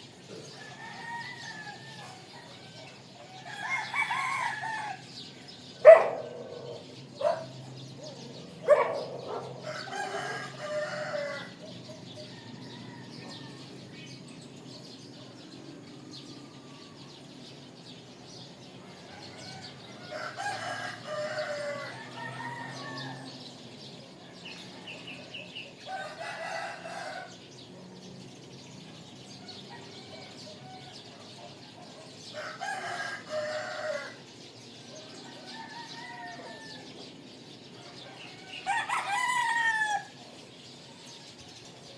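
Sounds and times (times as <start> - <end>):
roosters crowing: 0.1 - 14.8, 18.3 - 27.7, 28.6 - 41.9.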